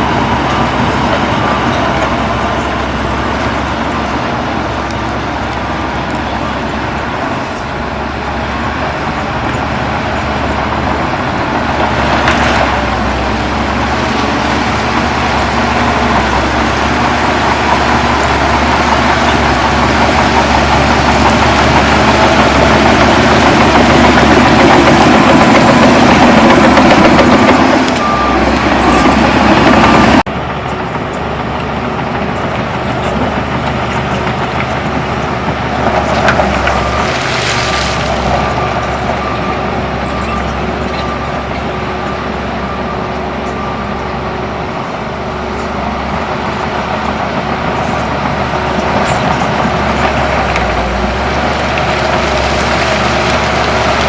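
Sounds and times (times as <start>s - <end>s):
diesel earthmoving machinery: 0.0s - 54.0s.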